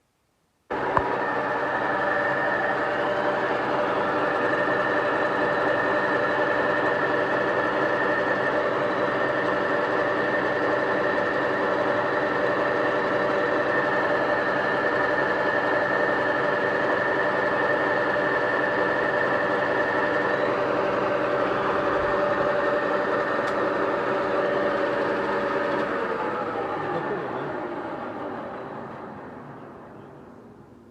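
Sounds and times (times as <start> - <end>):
high cutting whine: 0.7 - 30.6
milling machine drone: 0.7 - 30.9.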